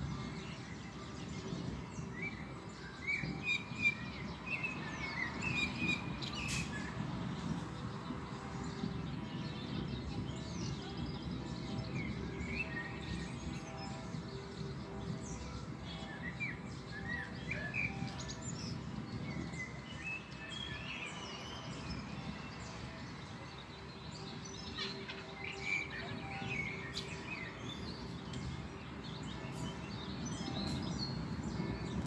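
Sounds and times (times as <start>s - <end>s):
low outdoor background noise: 0.0s - 32.0s
songbirds chirping: 0.0s - 32.0s.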